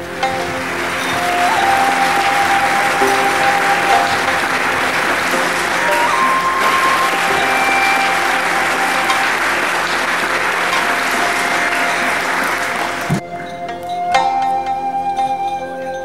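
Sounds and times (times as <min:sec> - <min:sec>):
audience applauding: 0:00.0 - 0:13.2
music playing: 0:00.0 - 0:16.0.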